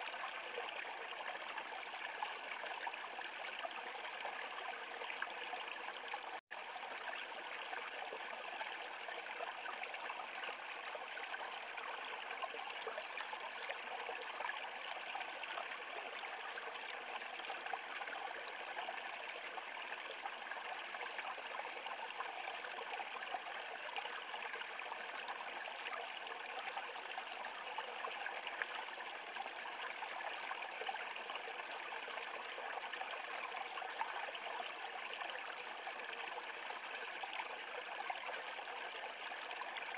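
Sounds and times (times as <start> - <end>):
stream splashing and trickling: 0.0 - 39.9.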